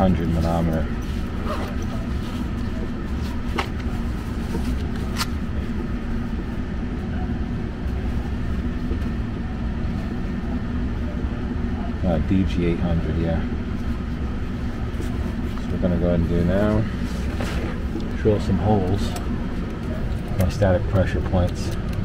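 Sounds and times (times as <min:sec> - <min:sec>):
furnace blower humming: 0:00.0 - 0:22.0.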